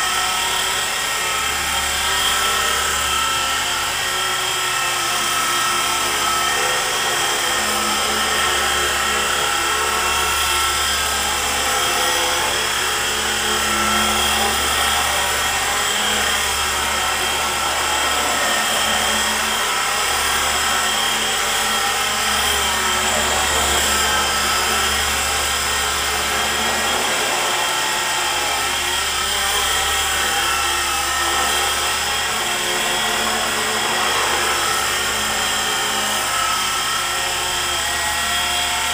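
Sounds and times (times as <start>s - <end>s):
helicopter rotors buzzing: 0.0s - 38.9s
small electric motors whining: 0.0s - 38.9s.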